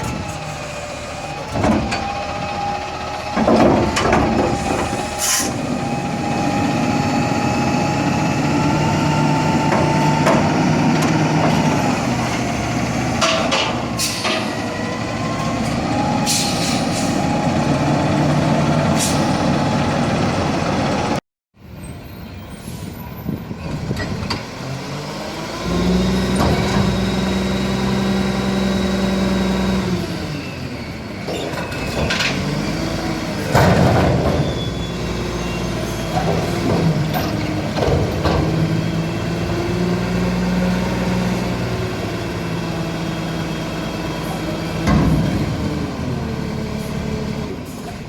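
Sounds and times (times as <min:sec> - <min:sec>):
garbage truck engine revving: 0:00.0 - 0:21.2, 0:23.7 - 0:48.0.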